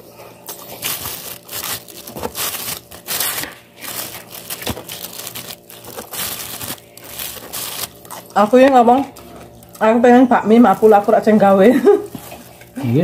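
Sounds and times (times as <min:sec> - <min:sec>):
plastic bag crinkling: 0:00.5 - 0:13.0.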